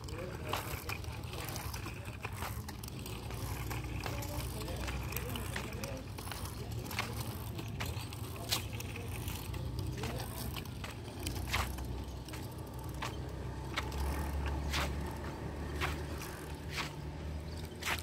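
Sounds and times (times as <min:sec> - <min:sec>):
bicycle chain ticking and rattling: 0:00.0 - 0:18.0.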